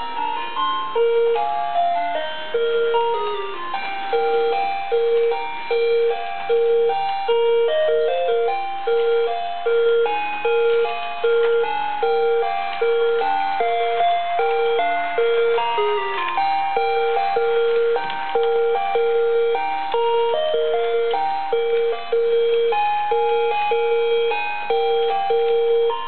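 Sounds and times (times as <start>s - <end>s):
tinny electronic melody: 0.0s - 26.0s.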